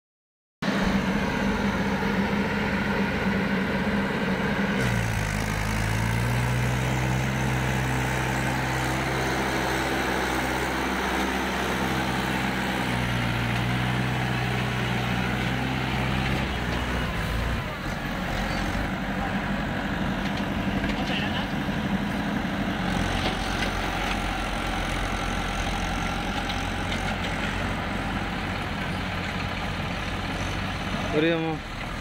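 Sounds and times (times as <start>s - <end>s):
diesel tractor engines running: 0.6s - 32.0s.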